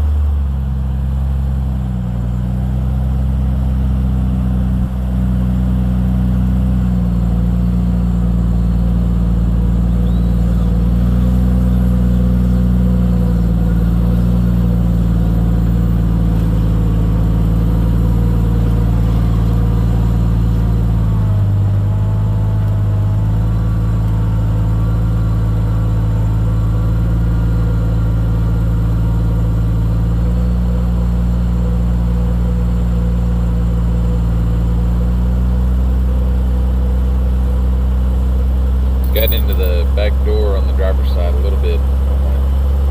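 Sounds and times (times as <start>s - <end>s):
vehicle engine running at low revs: 0.0s - 42.9s.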